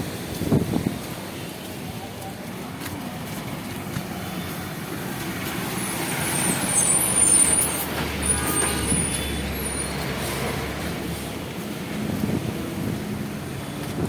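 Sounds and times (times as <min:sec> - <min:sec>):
brakes squealing: 0:00.0 - 0:14.0
heavy vehicle engine rumbling: 0:00.0 - 0:14.0.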